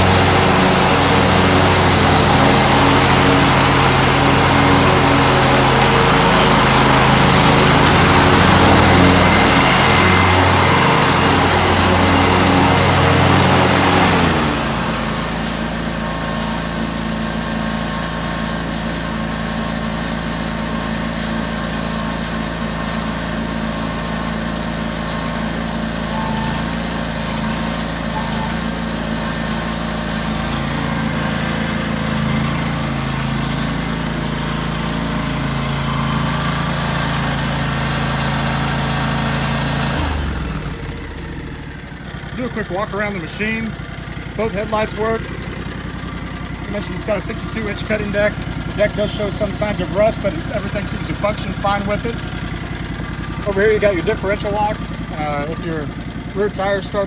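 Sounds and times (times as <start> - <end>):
garden tractor engine running: 0.0 - 57.0.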